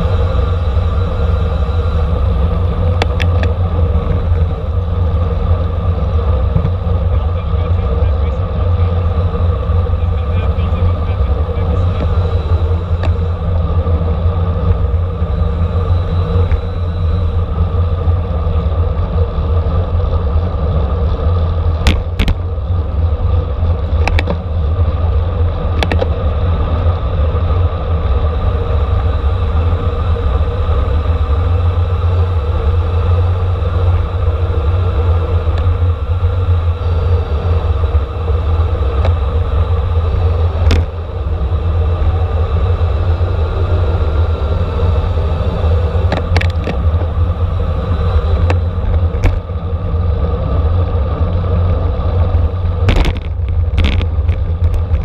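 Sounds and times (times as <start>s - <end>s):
road and tyre rumble: 0.0s - 55.0s
wind rushing over microphone: 0.0s - 55.0s.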